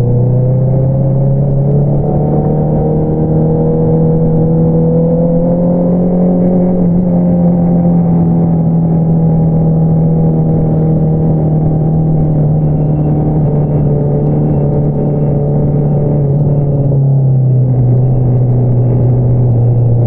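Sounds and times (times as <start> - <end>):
motorcycle exhaust at cruising revs: 0.0 - 20.0.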